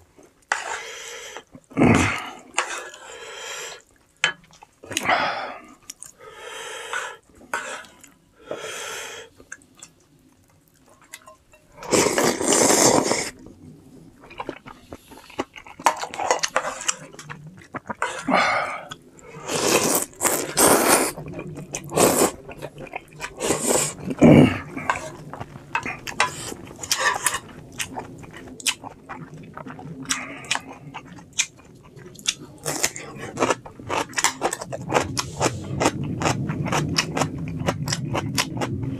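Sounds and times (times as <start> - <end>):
person chewing and crunching food: 0.0 - 6.2, 9.3 - 13.5, 14.2 - 38.9.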